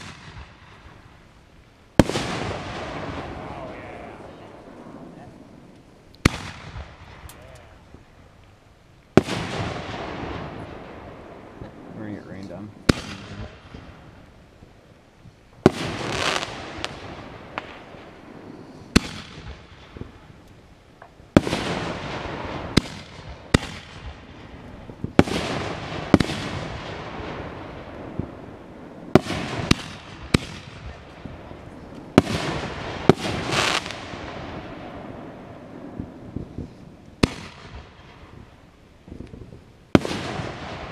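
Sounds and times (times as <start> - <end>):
firework bangs: 0.0 - 1.3, 1.9 - 8.1, 9.1 - 14.4, 15.6 - 40.9
firework crackle: 0.0 - 40.9.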